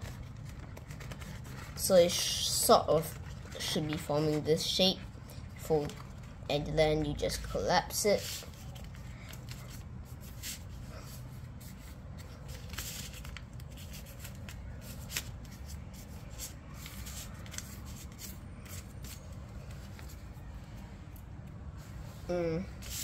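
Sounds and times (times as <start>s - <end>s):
paper crinkling and rustling: 0.0s - 4.8s, 5.4s - 7.5s, 8.2s - 20.8s.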